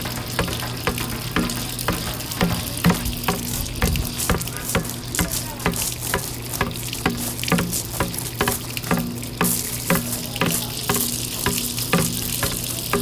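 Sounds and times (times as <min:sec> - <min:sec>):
sharp rhythmic taps: 0:00.0 - 0:13.0.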